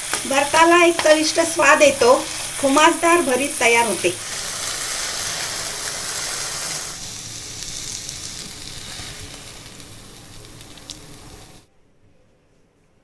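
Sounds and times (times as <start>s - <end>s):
eggplant sizzling in oil: 0.0s - 11.7s.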